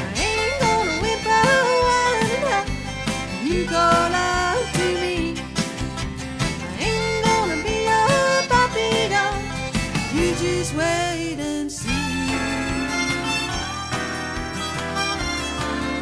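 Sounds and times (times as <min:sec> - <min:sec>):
band backing: 0:00.0 - 0:16.0
country lead melody with bending notes: 0:00.0 - 0:16.0.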